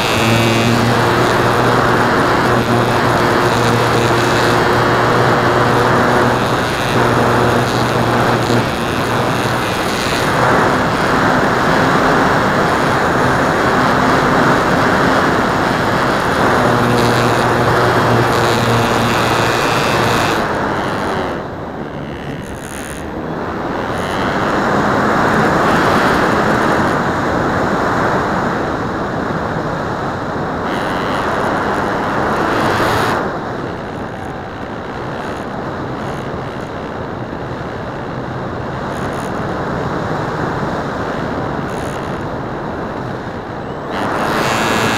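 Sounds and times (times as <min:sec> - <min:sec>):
electric motor and propeller hum: 0:00.0 - 0:44.9
wind rushing over microphone: 0:00.0 - 0:44.9.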